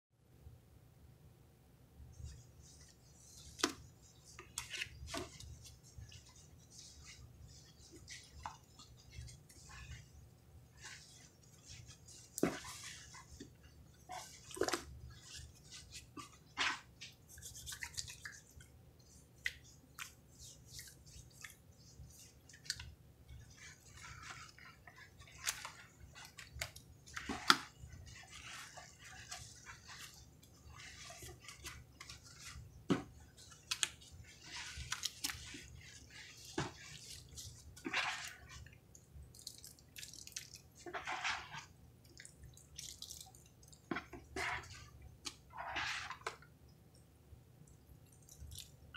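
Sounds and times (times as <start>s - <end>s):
sponges squishing and dripping: 2.1s - 48.9s.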